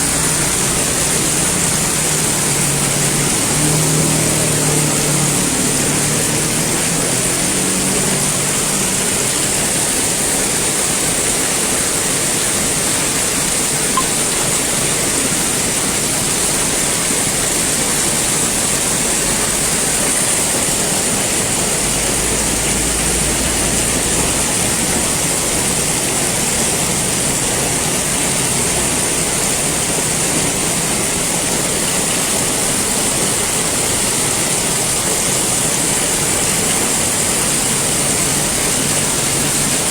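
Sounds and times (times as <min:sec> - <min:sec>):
engine: 0:00.0 - 0:39.9
heavy rain pouring: 0:00.0 - 0:39.9.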